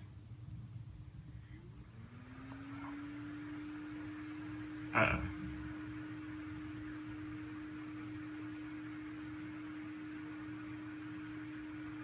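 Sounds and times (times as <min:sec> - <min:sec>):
steady tonal hum: 0:00.0 - 0:12.0.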